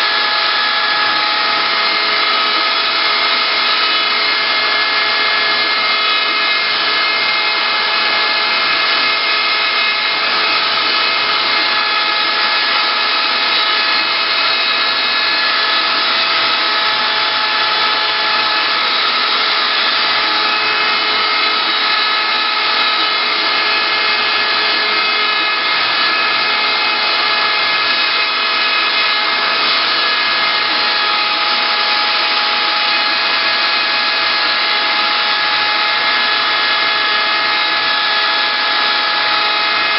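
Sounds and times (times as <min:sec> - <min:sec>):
wood router spindle whine: 0:00.0 - 0:39.9.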